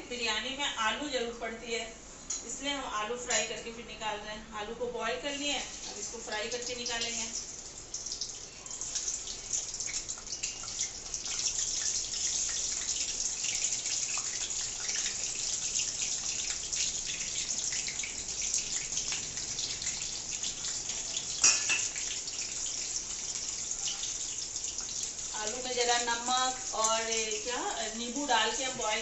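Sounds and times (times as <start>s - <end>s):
potatoes sizzling in oil: 5.2s - 29.0s.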